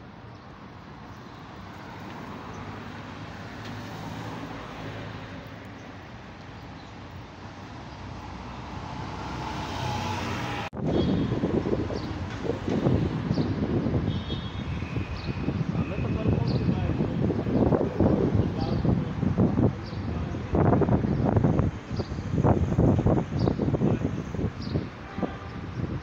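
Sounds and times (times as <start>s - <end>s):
cars passing: 0.5s - 24.6s.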